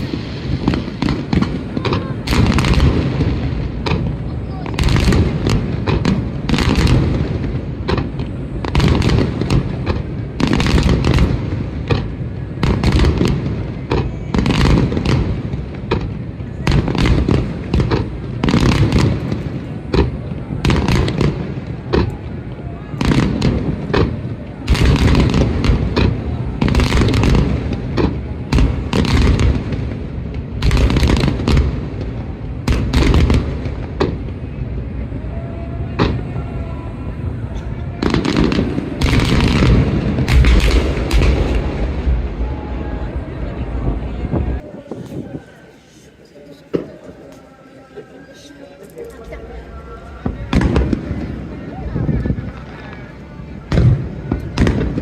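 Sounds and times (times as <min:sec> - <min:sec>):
fireworks booming: 0:00.0 - 0:47.5, 0:49.1 - 0:55.0
fireworks crackling: 0:00.0 - 0:55.0.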